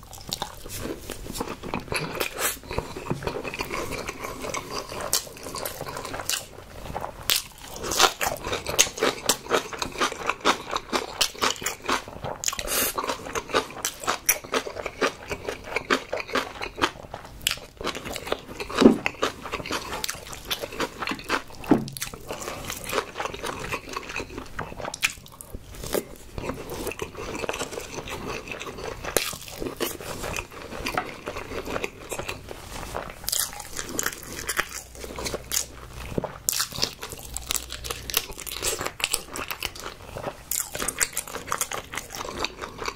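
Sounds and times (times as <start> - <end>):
chewing food: 0.0 - 42.9.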